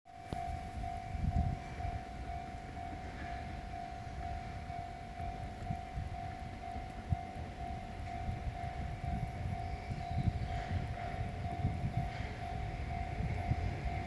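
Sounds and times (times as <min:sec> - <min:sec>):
level-crossing warning bell: 0:00.1 - 0:14.0.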